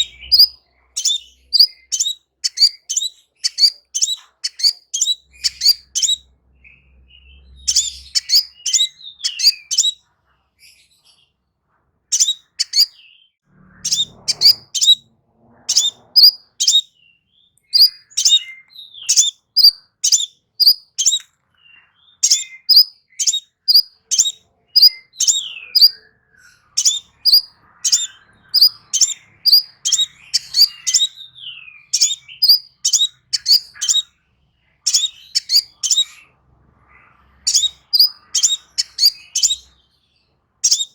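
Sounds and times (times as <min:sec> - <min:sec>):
songbird chirping: 0:00.0 - 0:11.4, 0:12.1 - 0:40.9.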